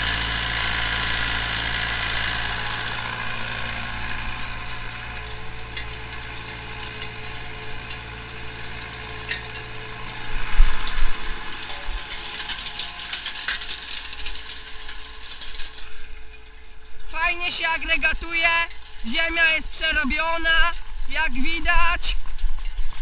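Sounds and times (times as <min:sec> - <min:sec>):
tractor diesel engine running: 0:00.0 - 0:23.0
metallic rattling: 0:00.8 - 0:21.1.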